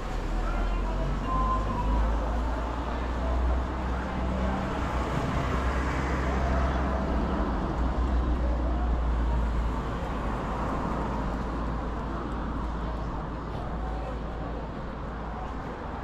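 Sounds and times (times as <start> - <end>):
passing motor vehicles: 0.0 - 16.0
road noise: 0.0 - 16.0.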